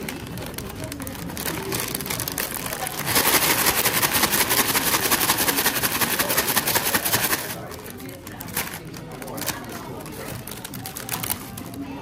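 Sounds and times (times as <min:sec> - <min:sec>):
rapid rustling and rattling: 0:01.4 - 0:11.6.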